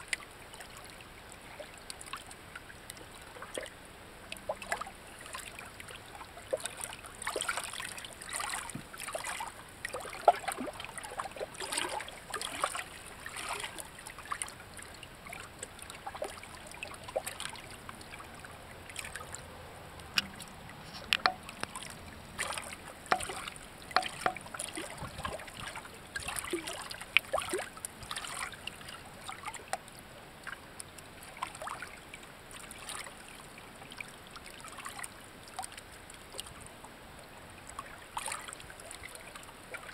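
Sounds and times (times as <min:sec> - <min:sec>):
water trickling among rocks: 0:00.0 - 0:39.9.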